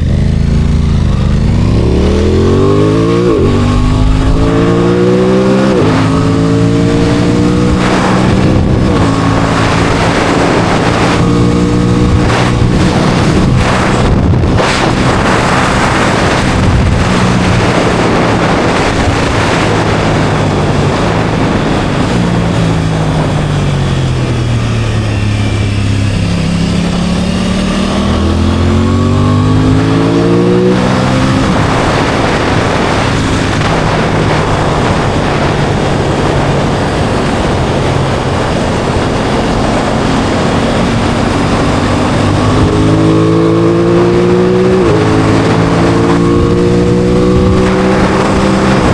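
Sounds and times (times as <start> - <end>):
heavy wind noise: 0.0 - 48.9
motorcycle engine: 0.0 - 48.9.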